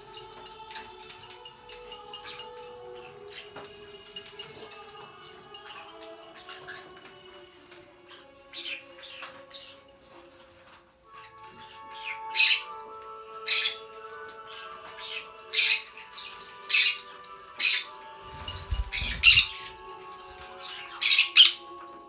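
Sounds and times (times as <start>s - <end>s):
parrots squawking: 1.8s - 10.0s, 11.0s - 19.8s, 20.6s - 21.7s.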